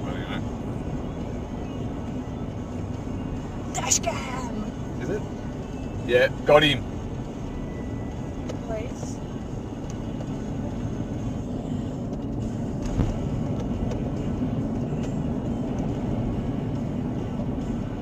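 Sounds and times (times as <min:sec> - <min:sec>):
vehicle road and engine noise: 0:00.0 - 0:18.0.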